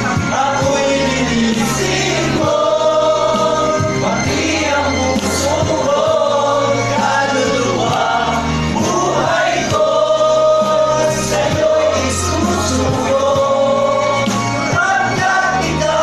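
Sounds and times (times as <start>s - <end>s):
choir singing long notes: 0.0s - 16.0s
steady low accompaniment: 0.0s - 16.0s.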